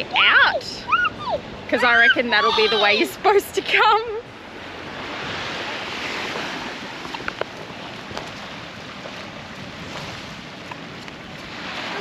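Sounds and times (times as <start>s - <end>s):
surf washing against rocks: 0.0s - 12.0s
wind on microphone: 0.0s - 12.0s.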